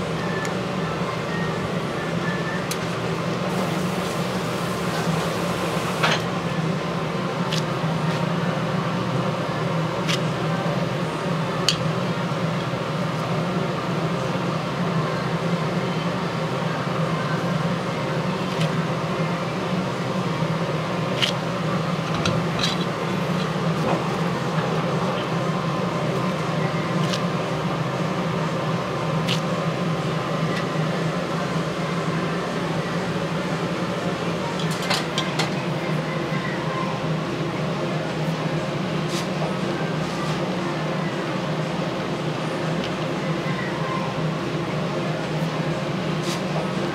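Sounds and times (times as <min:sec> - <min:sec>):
low mechanical hum: 0:00.0 - 0:46.9.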